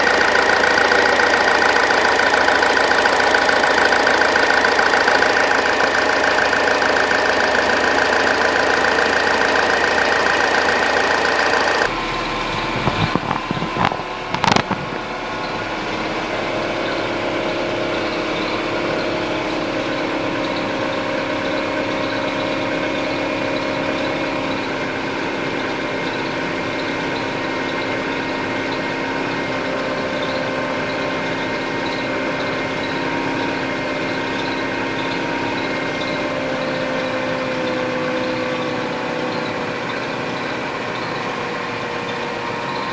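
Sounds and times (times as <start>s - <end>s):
car engine idling: 0.0s - 42.9s
whining squeal: 0.0s - 42.9s.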